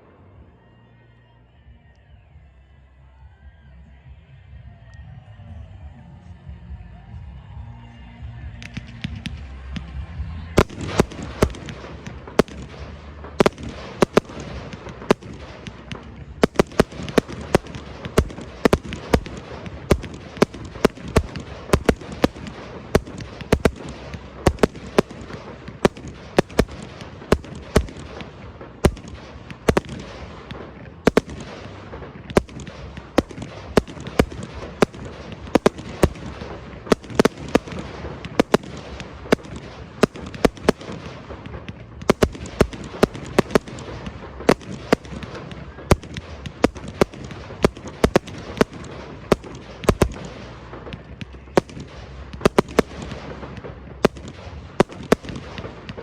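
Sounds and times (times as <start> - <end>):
fireworks shells bursting: 10.6 - 56.0
sharp firework cracks: 10.6 - 56.0.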